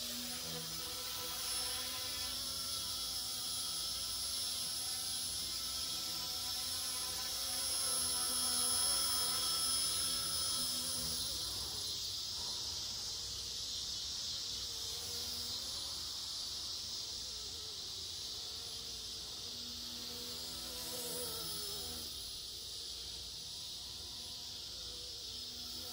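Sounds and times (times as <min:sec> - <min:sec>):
toy helicopter buzzing whine: 0:00.0 - 0:25.9.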